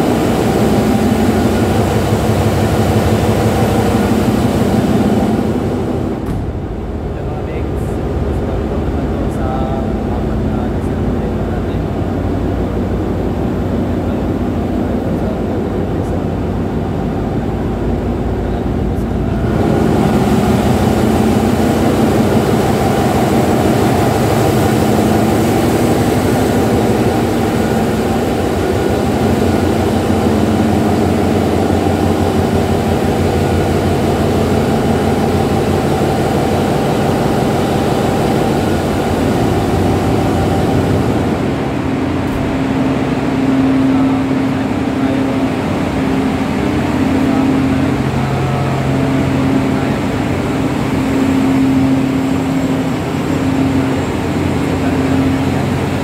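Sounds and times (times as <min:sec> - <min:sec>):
engine room machinery humming: 0:00.0 - 0:56.0.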